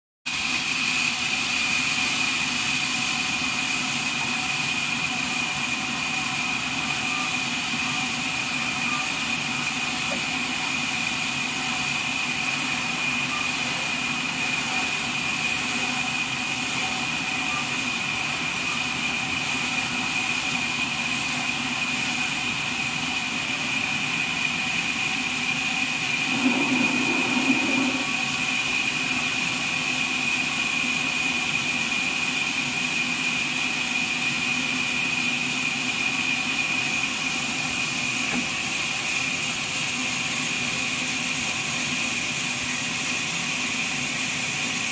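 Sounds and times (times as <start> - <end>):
band sawmill drone and whine: 0.3 - 44.9.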